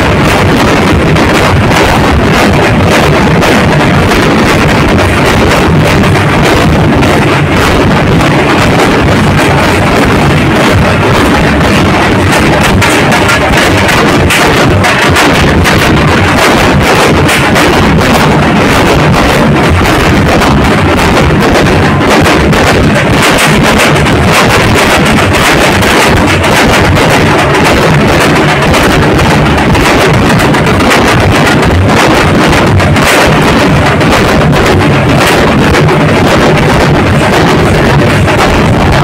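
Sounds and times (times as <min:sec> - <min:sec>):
distorted barrel drums pounding: 0:00.0 - 0:39.0.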